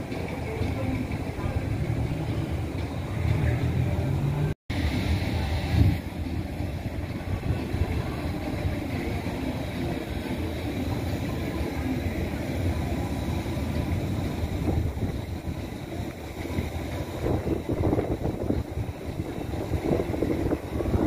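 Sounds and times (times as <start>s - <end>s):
subway train wheels rumbling on rail: 0.0s - 21.0s.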